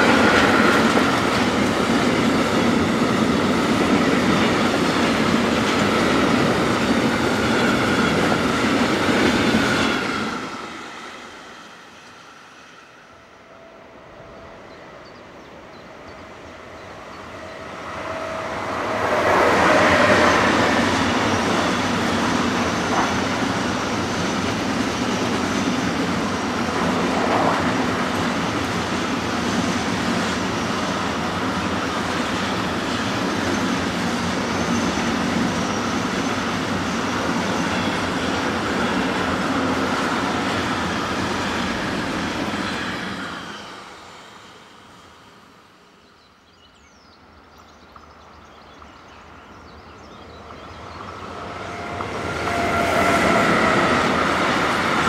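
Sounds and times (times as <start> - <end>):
electric locomotive tone: 0.0 - 45.4, 50.4 - 55.0
freight train rolling past: 0.0 - 55.0.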